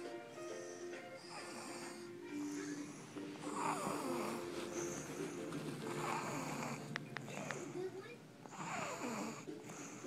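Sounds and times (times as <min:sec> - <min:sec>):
background music: 0:00.0 - 0:10.0
child snoring: 0:00.6 - 0:10.0.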